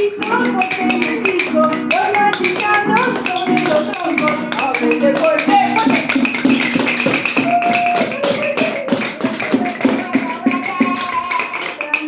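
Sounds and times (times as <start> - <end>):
hands tapping on hard surfaces: 0.2 - 12.0.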